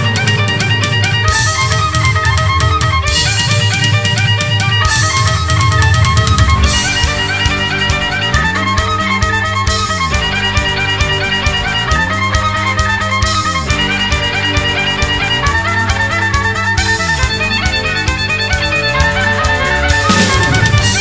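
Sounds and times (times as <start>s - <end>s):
repeating bass figure: 0.0s - 21.0s
steady beat: 0.0s - 21.0s
violin melody: 0.0s - 21.0s.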